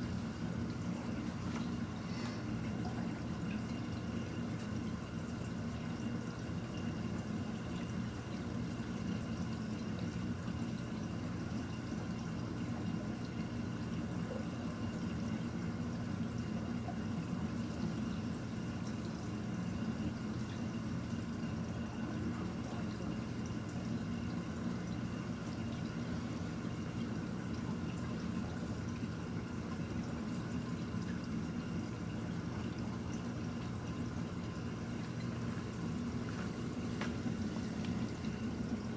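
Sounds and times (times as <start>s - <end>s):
aquarium water circulating: 0.0s - 38.9s
pump hum and tones: 0.0s - 38.9s.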